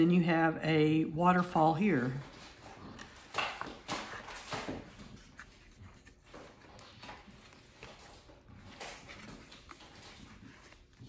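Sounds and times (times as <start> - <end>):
paper cards rustling: 2.0 - 11.0.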